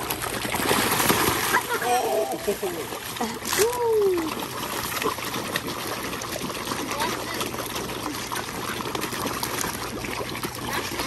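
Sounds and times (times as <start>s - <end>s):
fish splashing and gulping: 0.0s - 11.0s.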